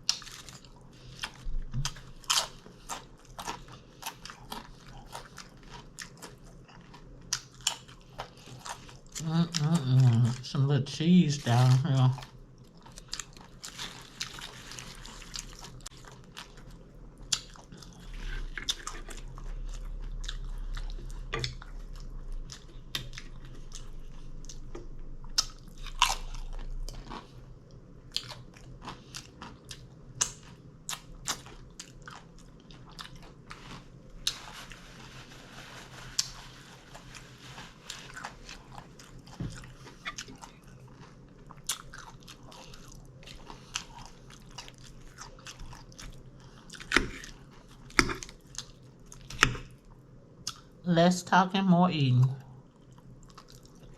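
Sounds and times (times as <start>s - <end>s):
person chewing and crunching food: 0.0s - 50.8s, 52.5s - 53.9s.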